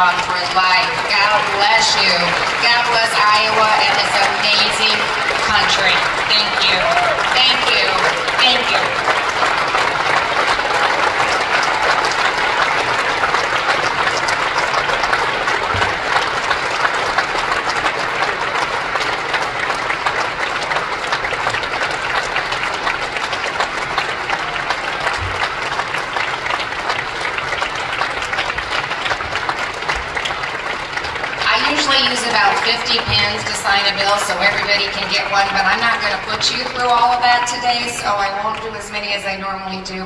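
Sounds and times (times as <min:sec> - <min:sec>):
audience applauding: 0:00.0 - 0:40.0.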